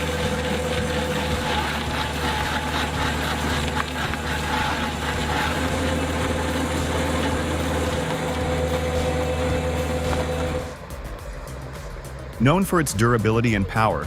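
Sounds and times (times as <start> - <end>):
diesel engine running: 0.0 - 13.8
steady whine: 0.0 - 14.0.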